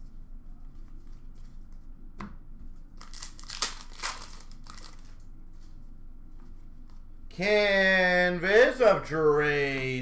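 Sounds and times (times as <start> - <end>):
room tone hum: 0.0 - 10.0.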